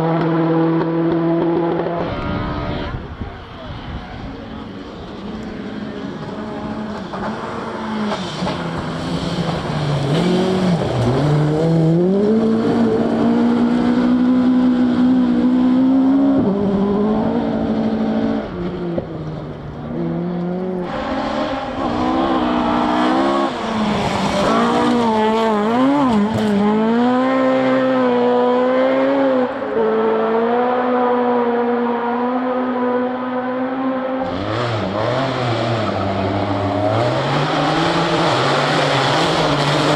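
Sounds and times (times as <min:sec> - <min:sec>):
rally car engine revving hard: 0:00.0 - 0:03.1, 0:05.2 - 0:19.1, 0:19.8 - 0:39.9.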